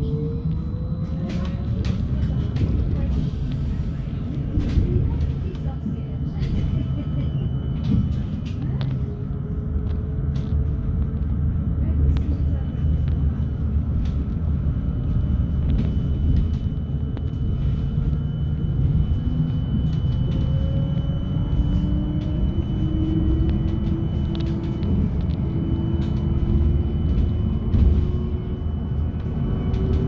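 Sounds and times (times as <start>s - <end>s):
road rumble: 0.0s - 30.0s.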